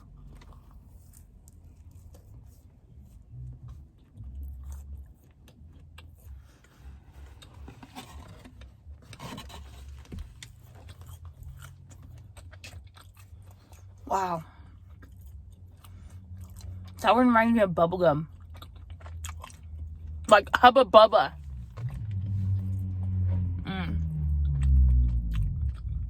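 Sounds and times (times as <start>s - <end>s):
person chewing: 0.0s - 17.0s, 18.2s - 20.3s, 21.5s - 26.0s.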